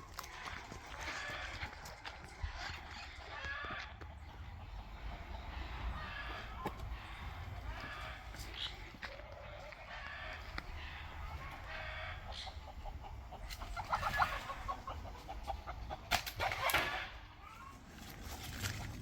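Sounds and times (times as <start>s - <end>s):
rooster clucking: 0.0s - 17.7s.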